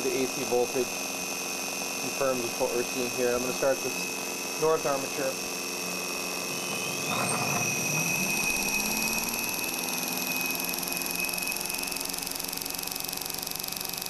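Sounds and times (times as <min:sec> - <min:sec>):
constant high machinery tone: 0:00.0 - 0:14.0
rising machine whine: 0:02.0 - 0:14.0.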